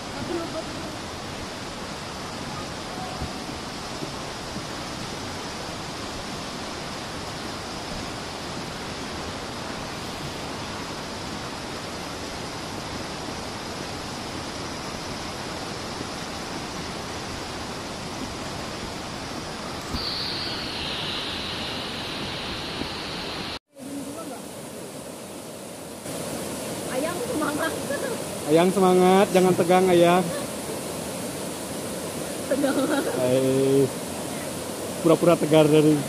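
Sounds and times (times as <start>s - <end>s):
higher thinner hiss: 0.0s - 36.0s
waterfall and stream rushing: 0.0s - 36.0s.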